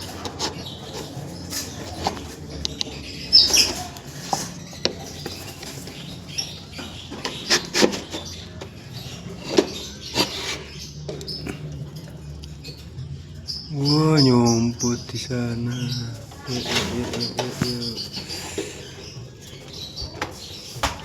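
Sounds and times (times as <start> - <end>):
handling knocks and rustling: 0.0 - 12.2, 16.2 - 21.0
lovebirds squeaking and chirping: 0.0 - 21.0.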